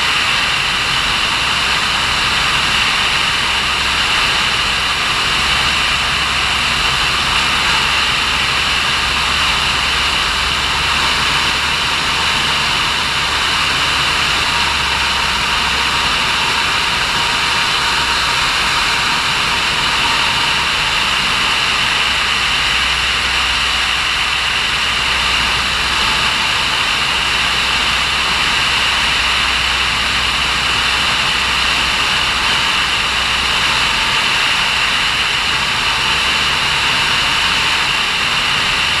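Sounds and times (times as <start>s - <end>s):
light aircraft engine drone: 0.0s - 39.0s.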